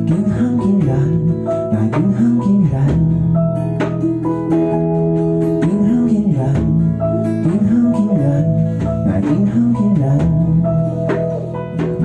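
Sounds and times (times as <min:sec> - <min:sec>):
person singing: 0:00.0 - 0:03.5, 0:05.5 - 0:12.0
live band with guitar: 0:00.0 - 0:12.0.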